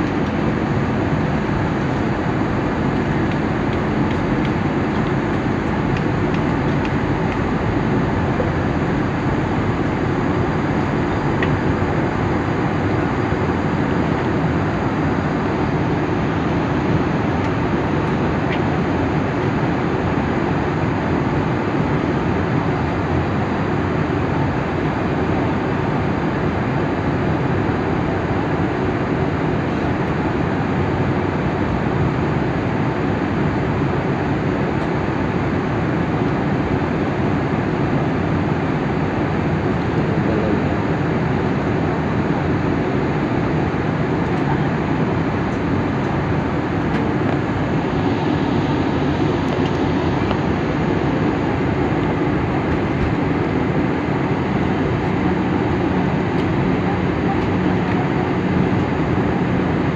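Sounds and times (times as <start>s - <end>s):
airliner engines roaring: 0.0s - 59.9s.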